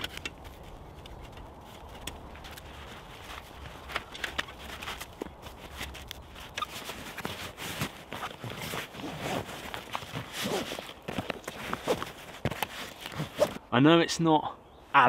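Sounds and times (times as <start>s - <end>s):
rustling on forest floor: 0.0s - 13.6s.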